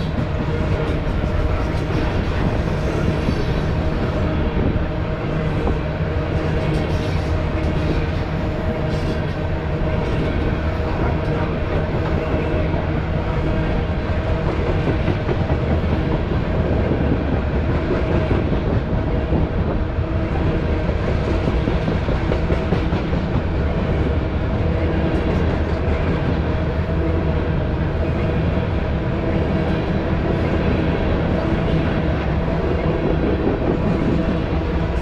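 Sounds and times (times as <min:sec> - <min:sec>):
freight train wheels rumbling on rail: 0:00.0 - 0:35.0.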